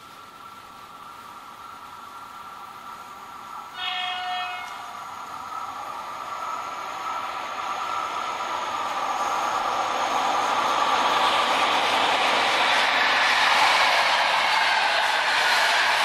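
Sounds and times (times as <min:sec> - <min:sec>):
faint steady whine: 0:00.0 - 0:15.2
train wheels rushing on rails: 0:00.0 - 0:16.0.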